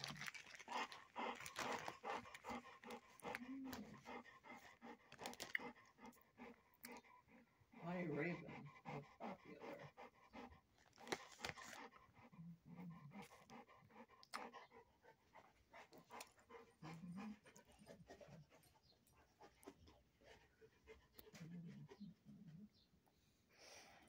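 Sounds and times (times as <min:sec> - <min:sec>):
dog panting: 0:00.0 - 0:23.5.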